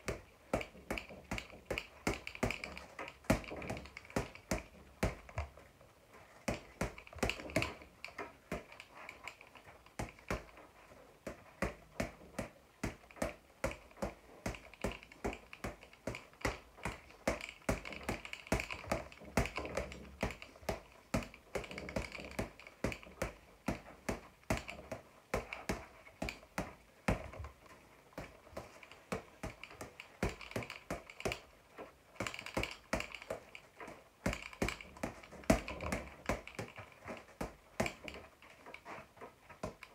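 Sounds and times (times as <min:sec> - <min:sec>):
boxing gloves smacking a ball: 0:00.0 - 0:05.6, 0:06.4 - 0:39.9.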